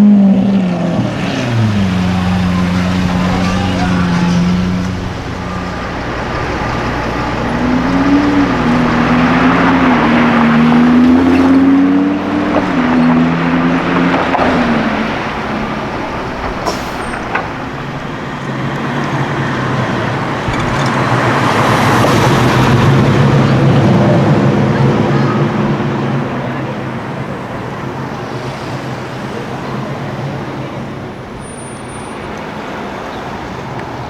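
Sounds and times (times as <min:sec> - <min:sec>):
engine revving unevenly: 0:00.0 - 0:31.4
car engines in traffic: 0:00.0 - 0:34.0.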